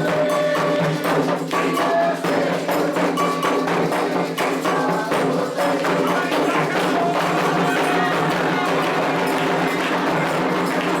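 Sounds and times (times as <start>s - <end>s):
hand drums: 0.0s - 11.0s
struck bell beat: 0.0s - 11.0s.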